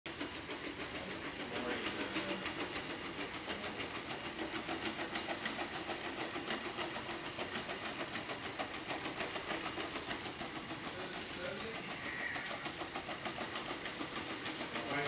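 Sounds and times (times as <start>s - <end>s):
leg motors humming: 0.1s - 15.0s.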